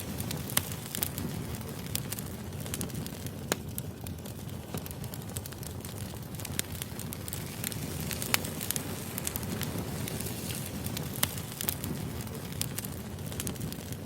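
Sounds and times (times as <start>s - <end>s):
firewood crackling and popping: 0.0s - 14.0s
flames rumbling: 0.0s - 14.0s.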